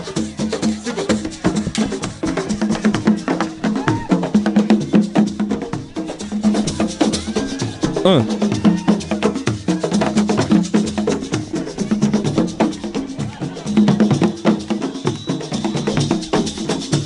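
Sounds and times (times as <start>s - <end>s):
fast dense drumming: 0.0s - 17.0s.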